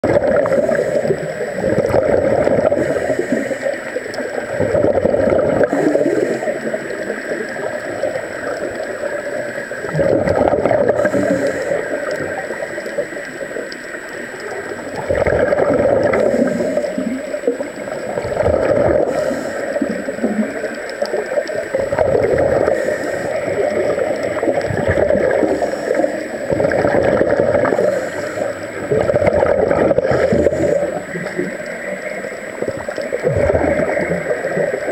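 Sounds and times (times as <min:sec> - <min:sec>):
underwater regulator bubbles: 0:00.0 - 0:34.9.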